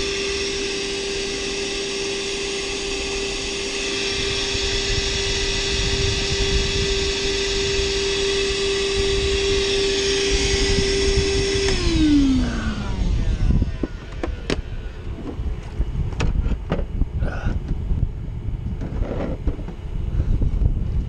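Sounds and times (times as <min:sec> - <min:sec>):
shop vacuum whining: 0:00.0 - 0:21.0
vacuum motor winding down: 0:00.0 - 0:21.0.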